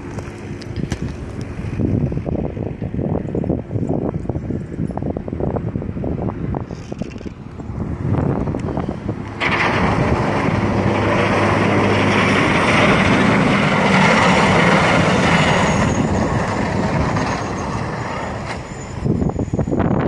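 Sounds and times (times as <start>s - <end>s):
drone propellers whirring: 0.0s - 20.0s
wind buffeting microphone: 0.0s - 20.0s.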